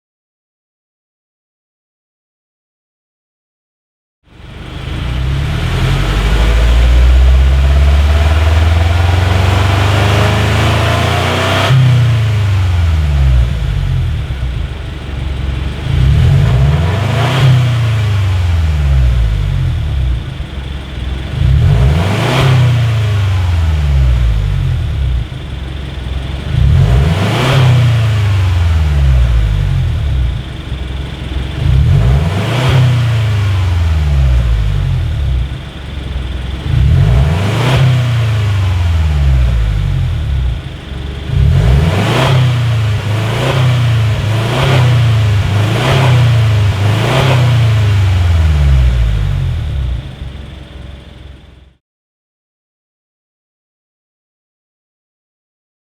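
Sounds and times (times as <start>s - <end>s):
car engine revving: 4.3s - 51.7s.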